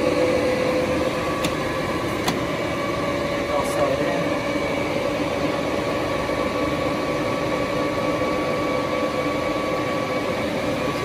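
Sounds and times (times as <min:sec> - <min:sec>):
lathe humming with whine: 0:00.0 - 0:11.0.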